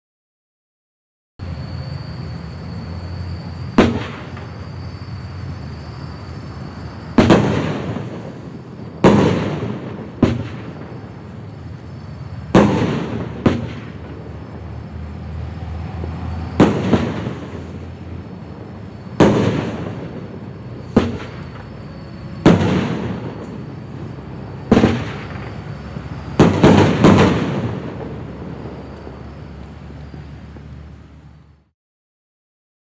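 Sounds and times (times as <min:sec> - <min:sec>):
firework bangs: 0:03.4 - 0:30.8.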